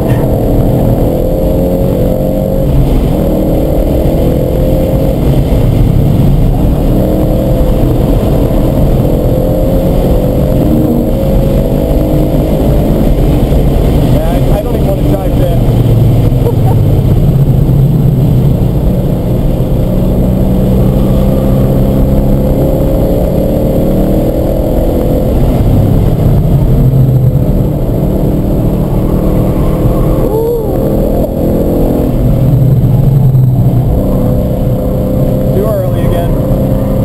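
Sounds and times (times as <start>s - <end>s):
car engine revving hard: 0.0s - 37.0s
gear downshift: 0.0s - 37.0s.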